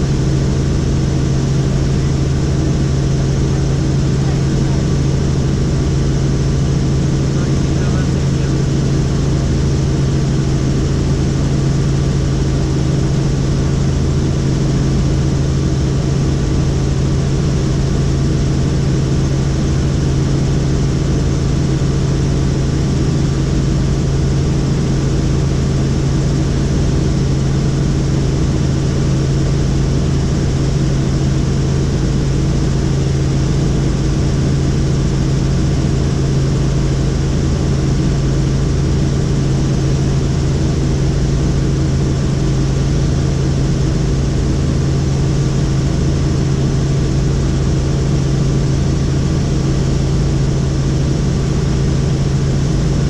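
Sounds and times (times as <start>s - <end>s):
helicopter rotors and engine drone: 0.0s - 53.0s.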